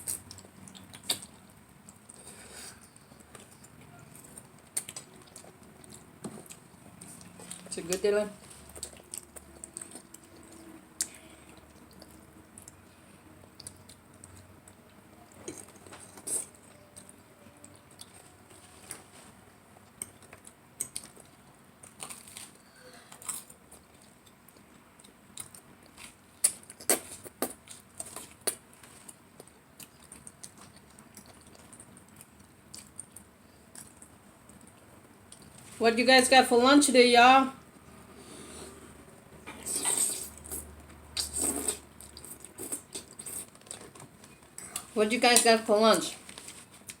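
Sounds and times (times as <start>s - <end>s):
chewing and mouth sounds: 0.0s - 35.8s, 39.5s - 45.0s.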